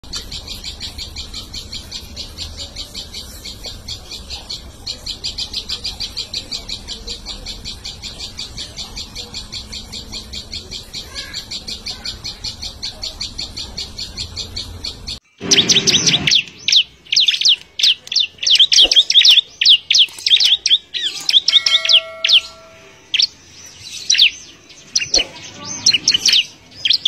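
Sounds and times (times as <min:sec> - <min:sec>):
bird chirping rapidly: 0:00.0 - 0:27.0.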